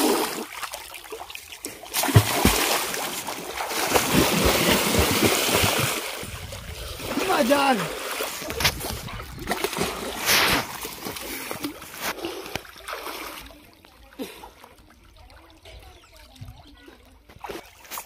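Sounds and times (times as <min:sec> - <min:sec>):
water splashing in a tank: 0:00.0 - 0:18.0.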